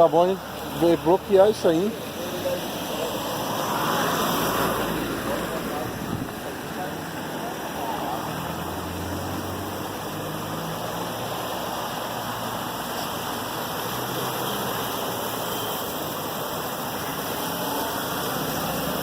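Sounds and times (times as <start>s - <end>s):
rushing water from heavy rain: 0.0s - 19.0s.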